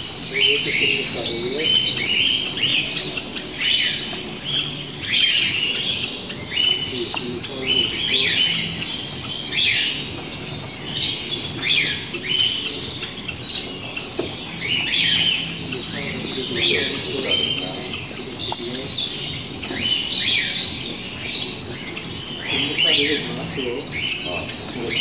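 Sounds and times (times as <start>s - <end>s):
canaries chirping: 0.0s - 25.0s.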